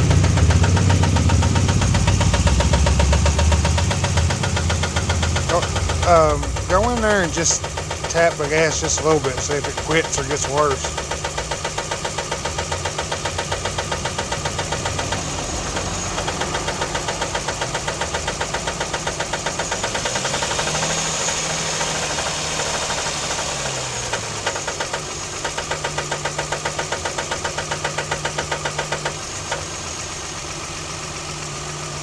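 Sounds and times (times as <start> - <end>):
engine revving: 0.0 - 31.6
car engine idling: 0.0 - 32.0
rapid engine knocking: 0.0 - 32.0.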